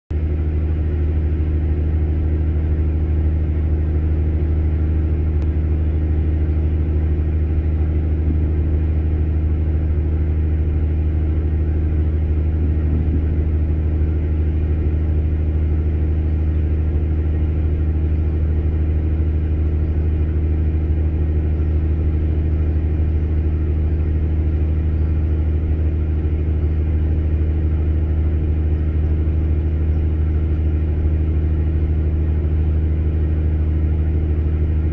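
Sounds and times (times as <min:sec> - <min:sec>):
engine humming steadily: 0:00.1 - 0:34.9.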